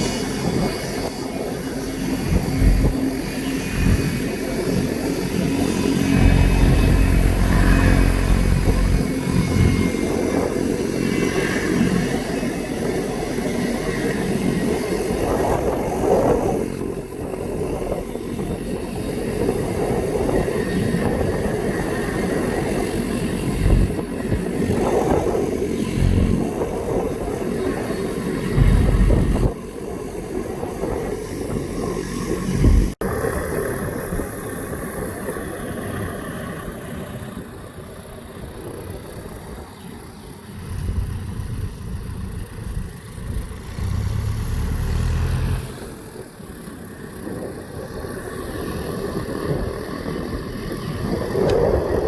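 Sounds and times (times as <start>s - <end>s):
engine running: 0.0s - 52.0s
outdoor noise: 0.0s - 52.0s.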